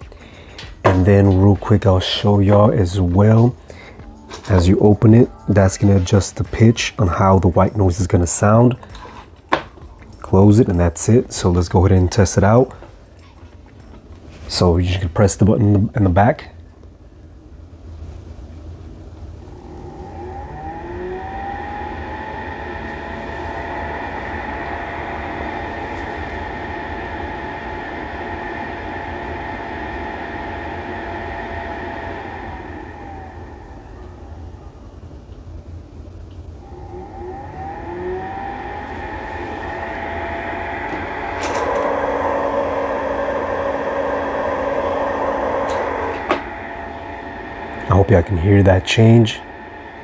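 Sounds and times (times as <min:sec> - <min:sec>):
fan motor whirring: 0:00.0 - 0:50.0.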